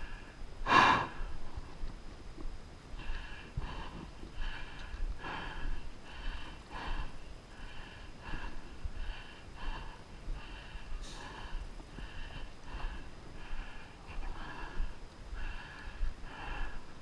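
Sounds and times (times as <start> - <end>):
person breathing hard and fast: 0.0 - 1.9, 2.9 - 17.0.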